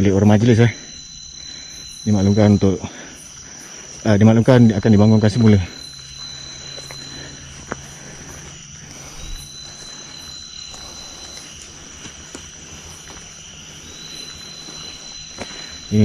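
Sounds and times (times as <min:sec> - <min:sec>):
crickets and insects trilling: 0:00.0 - 0:16.0
frogs calling: 0:00.0 - 0:16.0.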